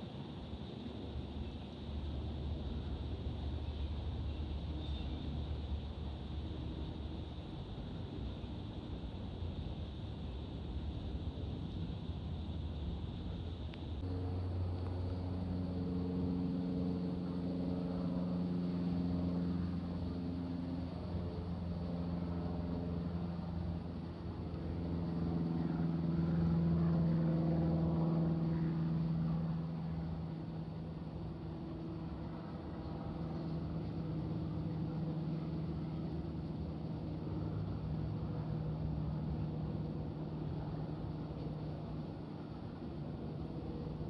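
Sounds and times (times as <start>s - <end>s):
aircraft engines droning: 0.0s - 44.0s.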